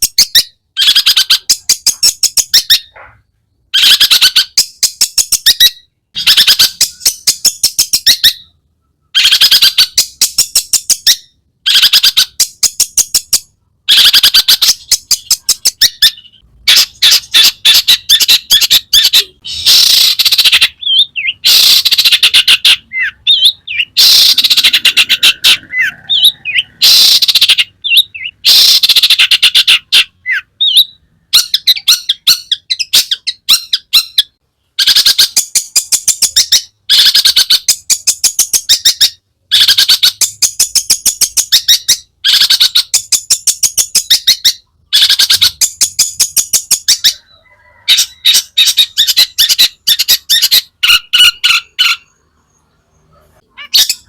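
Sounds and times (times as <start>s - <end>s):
bird harsh chattering song: 0.0s - 54.0s.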